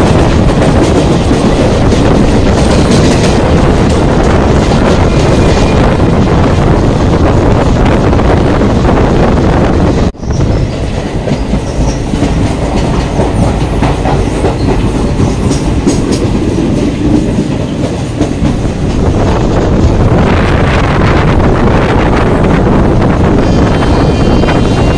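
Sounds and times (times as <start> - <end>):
train wheels clickety-clack on rails: 0.0 - 24.9.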